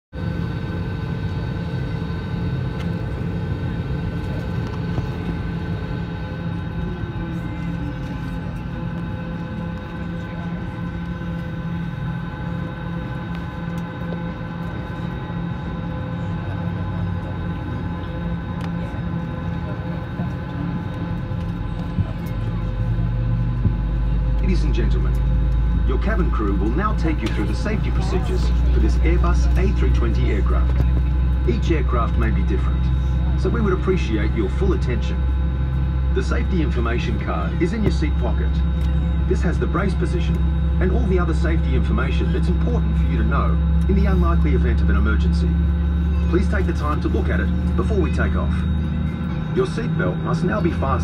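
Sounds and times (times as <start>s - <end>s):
deeper hum: 0.2s - 51.0s
low cabin rumble: 0.2s - 51.0s
steady whining tones: 0.2s - 51.0s.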